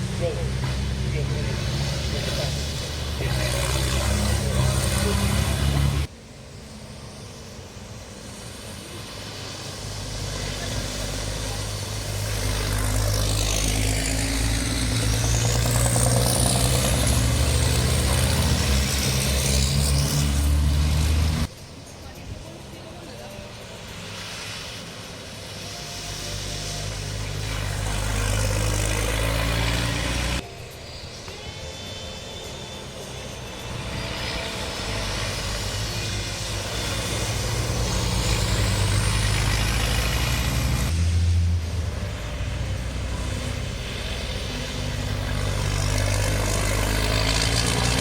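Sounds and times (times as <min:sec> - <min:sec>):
diesel truck engines racing: 0:00.0 - 0:48.0
high whine: 0:00.0 - 0:48.0.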